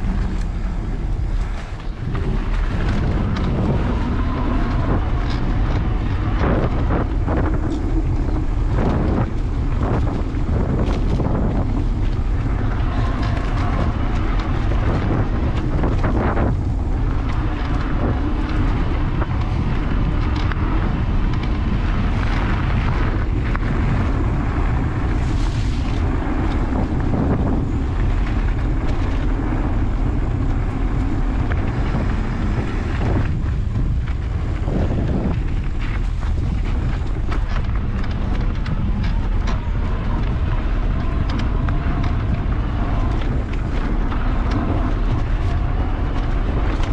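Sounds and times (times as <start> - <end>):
bike clicks and rattles: 0.0 - 46.9
knobby tyres rolling on dirt: 0.0 - 46.9
wind noise on microphone: 0.0 - 46.9.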